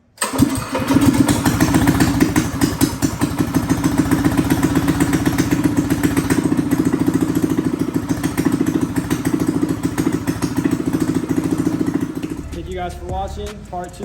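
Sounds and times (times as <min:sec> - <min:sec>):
minibike engine running: 0:00.2 - 0:12.5.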